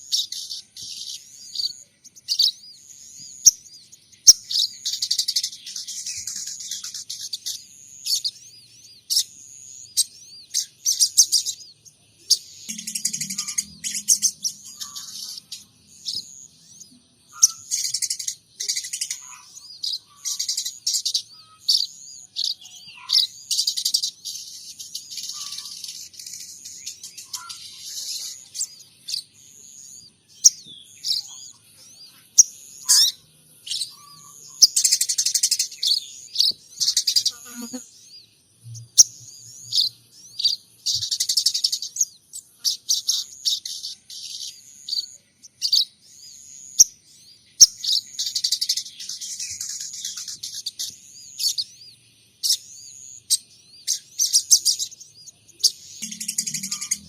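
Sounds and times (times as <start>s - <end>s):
songbird rapid high chirping: 0.0s - 57.0s.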